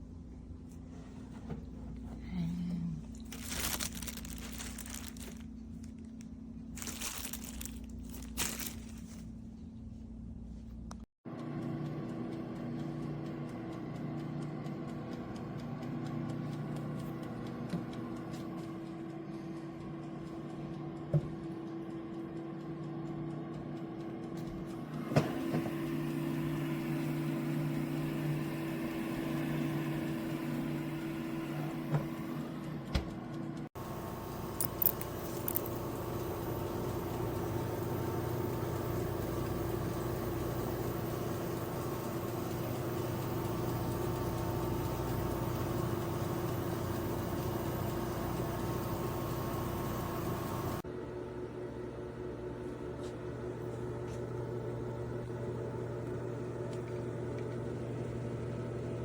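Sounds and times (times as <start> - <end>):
air fryer fan whirring: 0.0 - 10.6, 11.3 - 59.0.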